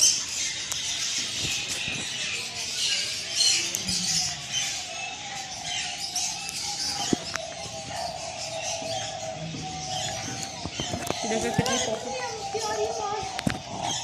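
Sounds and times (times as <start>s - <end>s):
small birds chirping and squawking: 0.0s - 14.0s.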